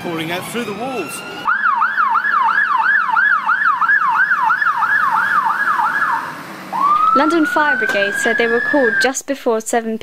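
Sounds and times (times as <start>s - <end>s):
siren wailing: 0.0s - 9.2s
siren yelping: 0.1s - 9.2s.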